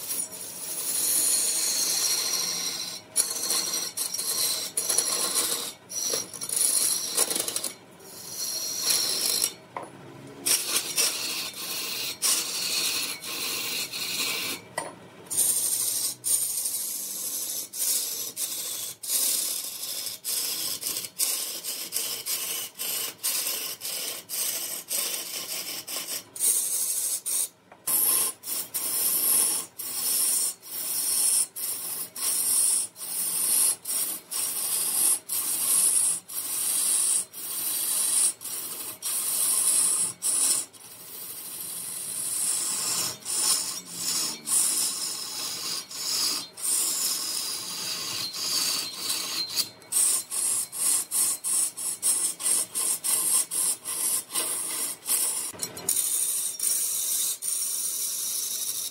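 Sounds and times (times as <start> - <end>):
rough scraping strokes: 0.0 - 9.6, 10.4 - 14.7, 15.3 - 58.9.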